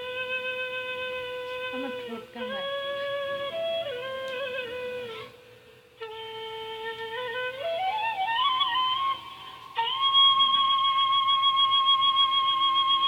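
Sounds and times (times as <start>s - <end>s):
slow flute-like melody: 0.0s - 13.0s.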